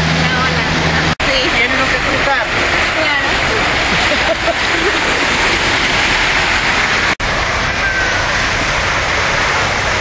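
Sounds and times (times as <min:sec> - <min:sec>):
cars driving through water: 0:00.0 - 0:10.0
rain and floodwater rushing: 0:00.0 - 0:10.0.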